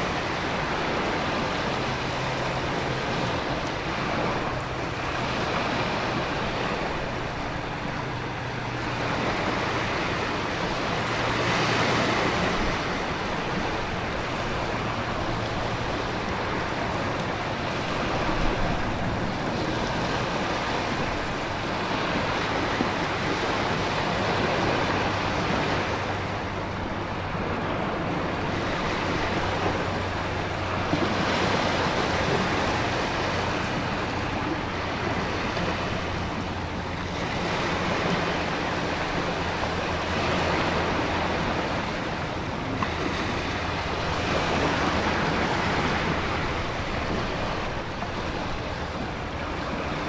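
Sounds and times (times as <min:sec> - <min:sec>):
ocean surf: 0:00.0 - 0:50.0
wind: 0:00.0 - 0:50.0.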